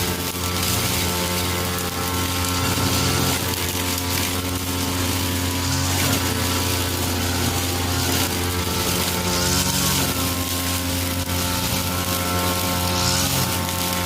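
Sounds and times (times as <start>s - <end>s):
petrol brush cutter running: 0.0s - 14.0s.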